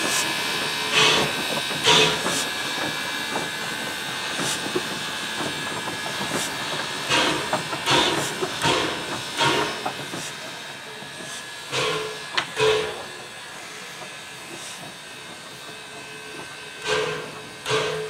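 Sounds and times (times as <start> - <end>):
steady hiss of steam: 0.0 - 18.0
steam locomotive exhaust chuffing: 0.0 - 18.0.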